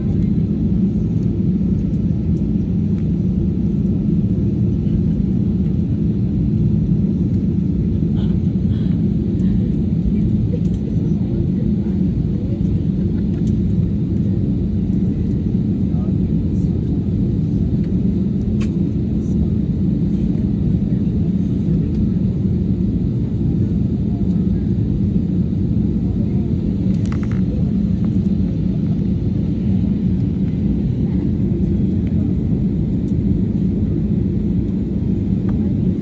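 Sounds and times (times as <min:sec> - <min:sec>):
aircraft cabin rumble: 0:00.0 - 0:36.0.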